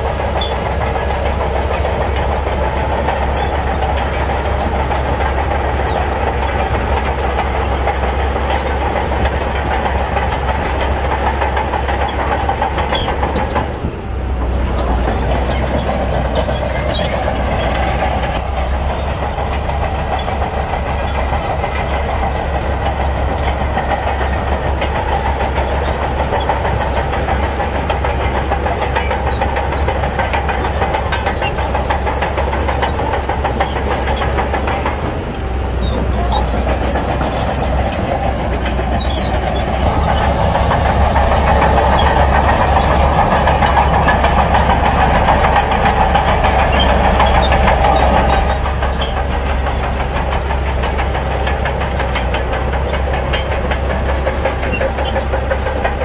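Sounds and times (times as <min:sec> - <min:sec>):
bulldozer diesel engine under load: 0:00.0 - 0:56.0
steel tracks clattering: 0:00.0 - 0:56.0.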